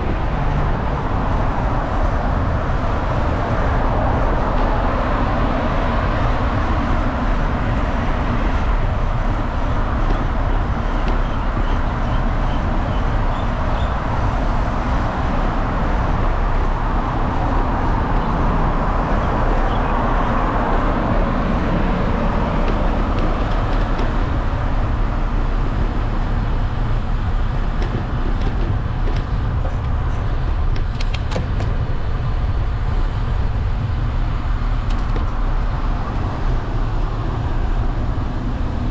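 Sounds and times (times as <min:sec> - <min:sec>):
wind and road noise from bicycle: 0:00.0 - 0:38.9.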